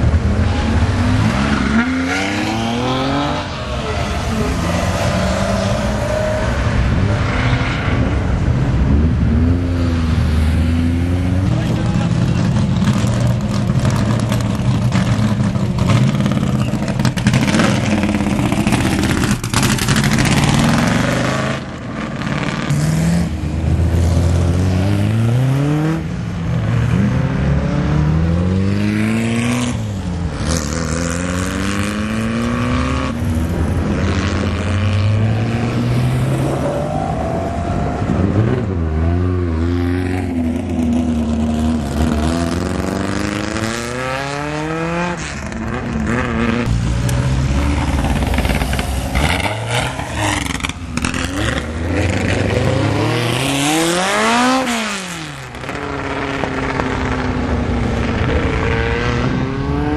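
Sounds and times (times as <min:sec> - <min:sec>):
racing car engines accelerating: 0:00.0 - 0:59.9.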